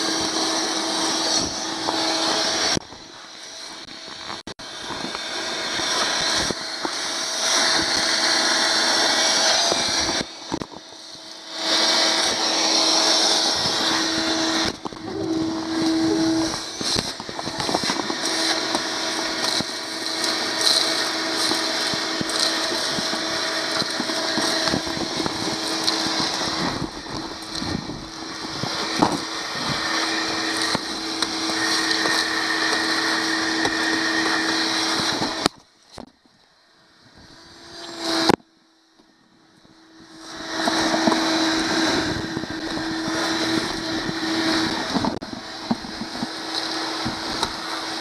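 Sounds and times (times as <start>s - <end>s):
shop vacuum running: 0.0s - 36.1s, 36.8s - 48.0s.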